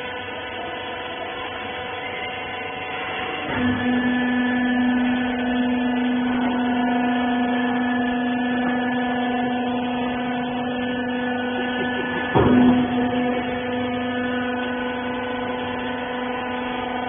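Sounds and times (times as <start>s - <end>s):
baler machine motor humming: 0.0s - 17.0s.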